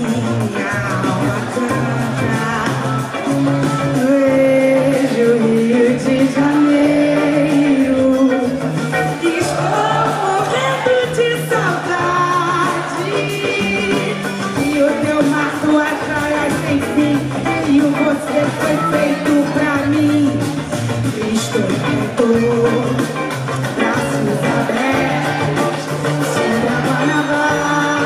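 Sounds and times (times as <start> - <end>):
bass line: 0.0 - 28.0
live band playing samba: 0.0 - 28.0
person singing: 0.0 - 28.0.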